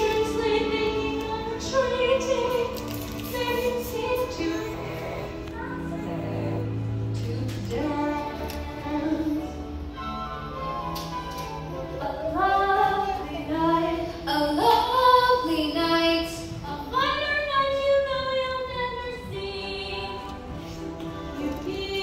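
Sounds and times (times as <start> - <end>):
girls singing: 0.0 - 9.7, 11.9 - 22.0
backing music: 0.0 - 22.0.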